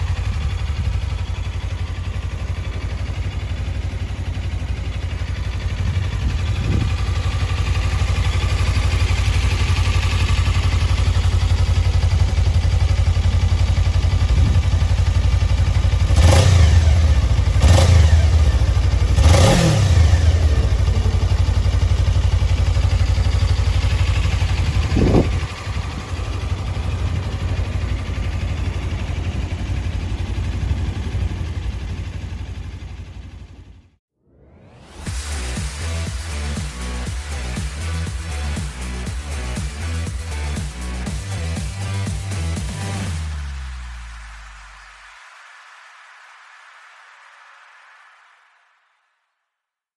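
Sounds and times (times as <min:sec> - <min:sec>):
motorcycle engine idling: 0:00.0 - 0:34.0, 0:35.1 - 0:43.8
motorcycle engine revving: 0:00.0 - 0:44.1.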